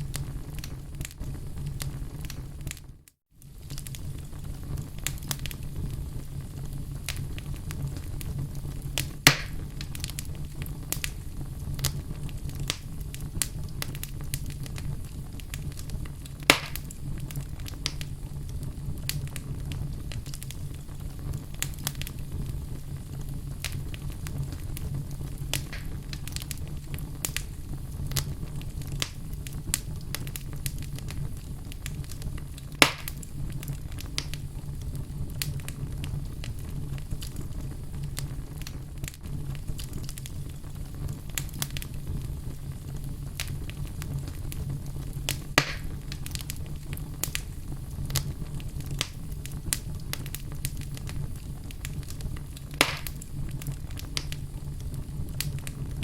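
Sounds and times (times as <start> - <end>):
loud fire pops: 0.0 - 56.0
wood fire crackling: 0.0 - 56.0.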